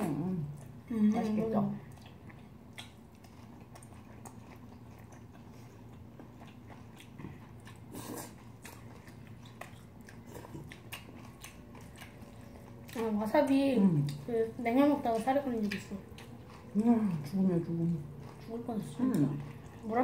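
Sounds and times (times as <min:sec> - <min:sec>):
chewing with wet mouth clicks: 0:00.0 - 0:20.0.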